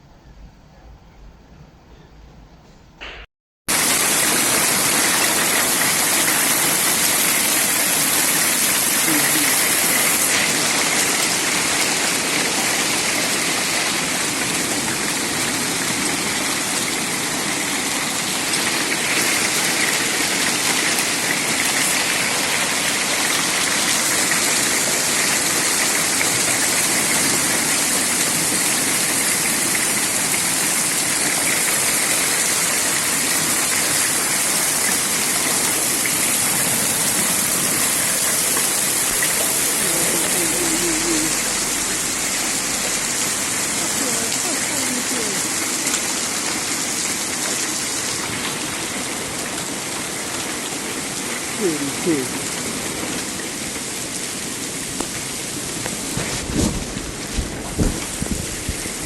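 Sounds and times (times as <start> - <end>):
heavy rain: 3.0 - 59.0.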